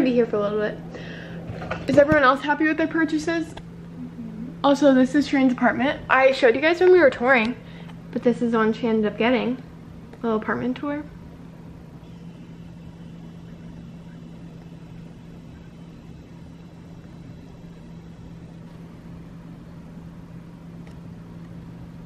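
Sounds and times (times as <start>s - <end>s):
faint high whine: 0.0s - 22.0s
low room hum: 0.0s - 22.0s.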